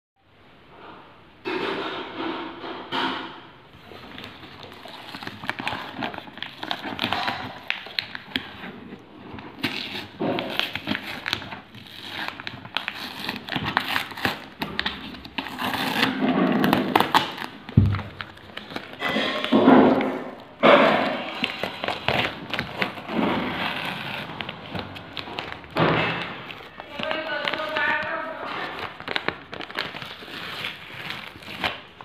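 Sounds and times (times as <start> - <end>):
crinkling and crackling: 3.7 - 32.0
packing tape peeling and tearing: 3.8 - 32.0.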